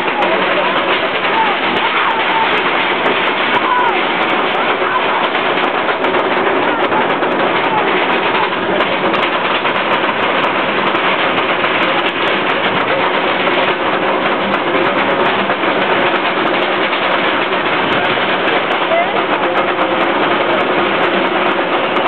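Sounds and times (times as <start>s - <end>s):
roller coaster lift chain clatter: 0.0s - 22.0s.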